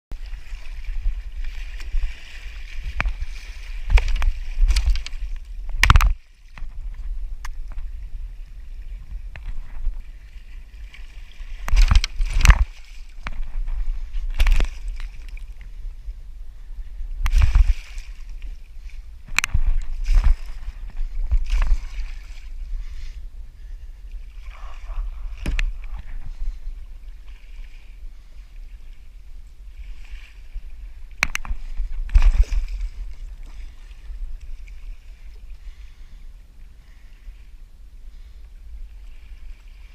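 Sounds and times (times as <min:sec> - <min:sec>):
steady low rumble: 0:00.1 - 0:39.9
water sloshing around kayak: 0:00.1 - 0:39.9.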